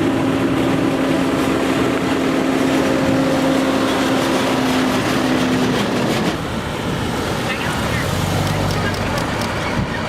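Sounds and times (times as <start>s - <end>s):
emergency vehicle engines droning: 0.0s - 10.0s.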